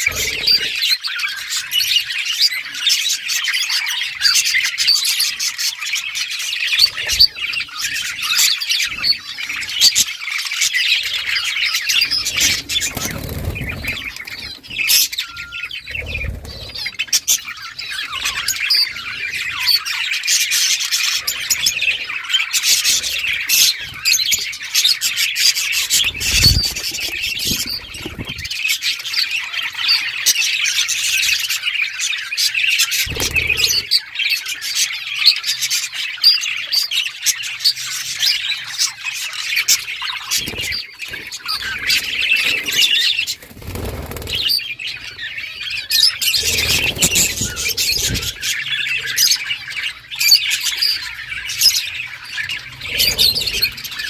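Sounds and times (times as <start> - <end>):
budgerigars chirping and squawking: 0.0 - 54.0.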